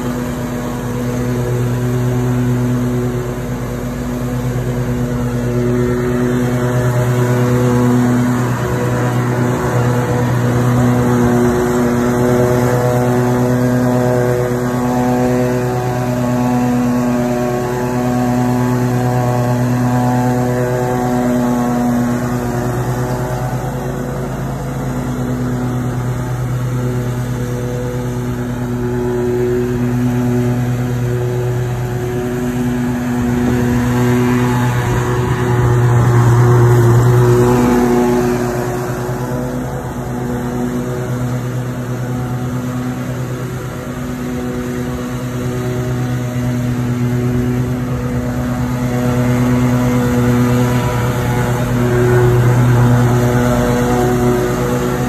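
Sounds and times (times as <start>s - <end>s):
riding mower engine running: 0.0s - 55.0s.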